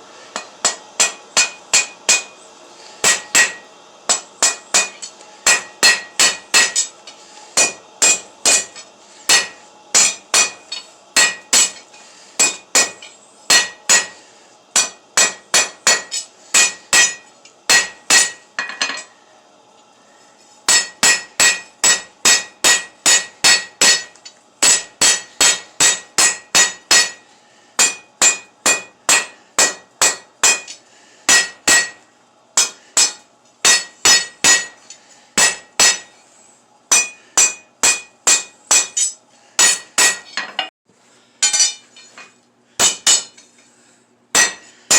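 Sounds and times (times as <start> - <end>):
hammer striking steel on anvil: 0.4 - 2.4, 3.0 - 19.1, 20.7 - 36.2, 36.9 - 40.7, 41.4 - 43.5, 44.3 - 44.9.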